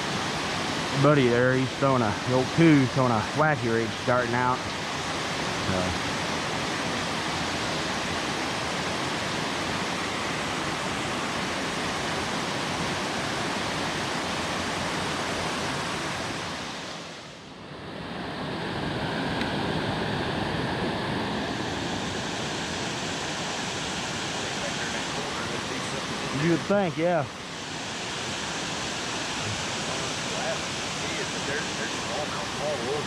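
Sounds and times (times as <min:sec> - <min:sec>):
creek waterfall rushing: 0:00.0 - 0:17.4, 0:18.3 - 0:33.0.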